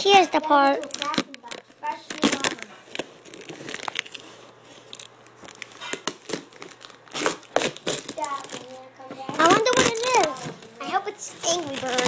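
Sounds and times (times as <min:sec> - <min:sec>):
packaging crinkling: 0:00.6 - 0:10.7, 0:11.3 - 0:12.0
packaging ripping: 0:00.8 - 0:08.8, 0:09.4 - 0:10.5, 0:11.4 - 0:12.0.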